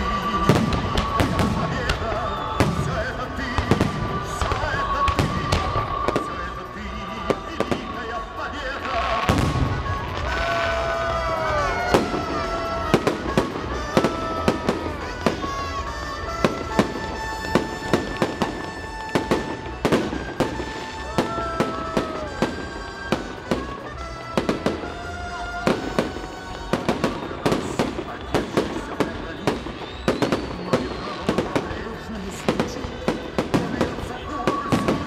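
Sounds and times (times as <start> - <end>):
fireworks bangs and crackles: 0.0 - 35.0
whistling fireworks: 0.0 - 35.0.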